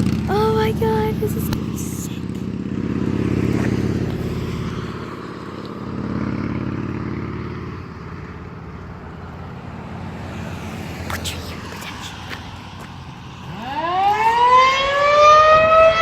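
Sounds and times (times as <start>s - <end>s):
traffic passing on road: 0.0s - 16.0s.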